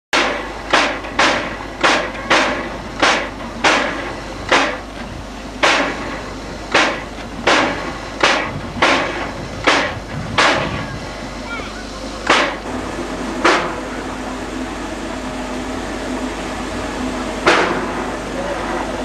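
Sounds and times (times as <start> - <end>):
steam locomotive exhaust beats: 0.2 - 19.0.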